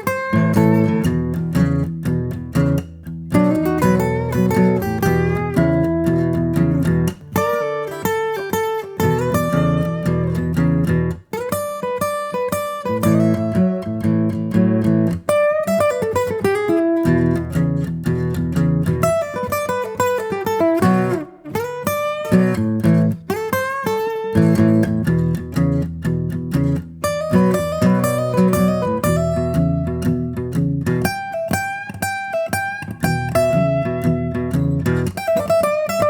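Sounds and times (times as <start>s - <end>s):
acoustic guitar music: 0.0s - 36.0s.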